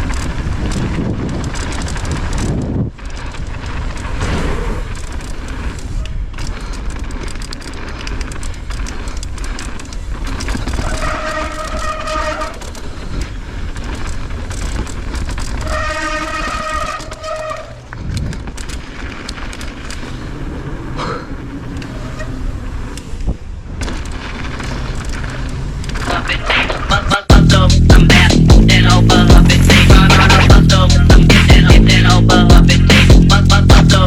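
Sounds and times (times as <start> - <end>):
bike trail rumble: 0.0 - 34.0
wind: 0.0 - 34.0.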